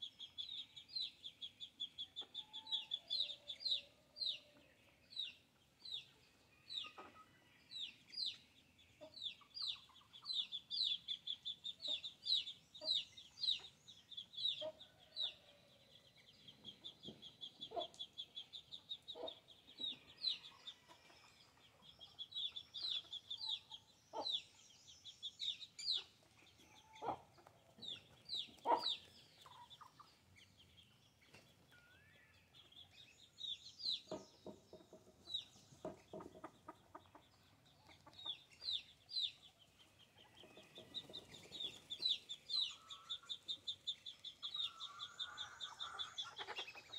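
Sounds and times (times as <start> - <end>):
chickens clucking: 1.7 - 15.6, 16.2 - 24.4, 25.4 - 33.1, 33.8 - 46.9.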